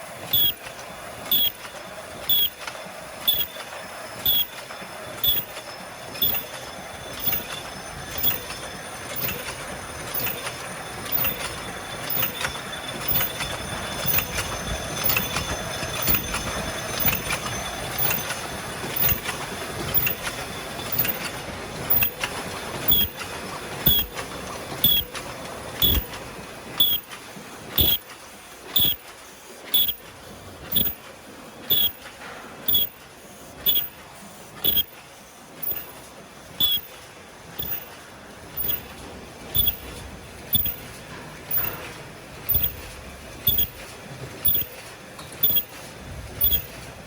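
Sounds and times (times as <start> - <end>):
machine clatter and hiss: 0.0 - 47.0
machine mechanical stroke: 1.2 - 27.1, 27.8 - 28.1, 28.7 - 29.0, 29.7 - 30.0, 30.7 - 31.0, 31.7 - 33.0, 33.6 - 34.0, 36.6 - 37.0, 37.6 - 46.9.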